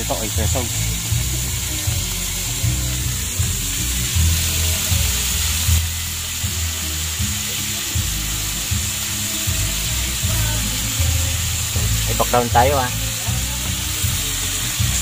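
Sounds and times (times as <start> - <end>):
background music with bass line: 0.0 - 15.0
vegetables sizzling in a frying pan: 0.0 - 15.0.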